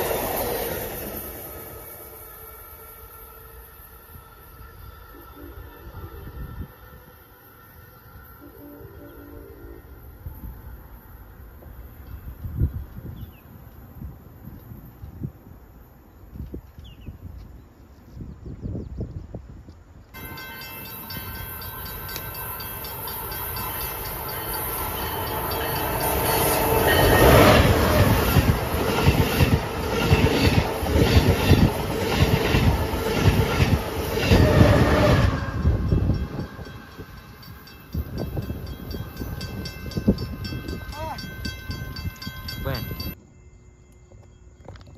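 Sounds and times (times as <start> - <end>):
train rushing past: 0.0 - 14.5, 20.2 - 43.2.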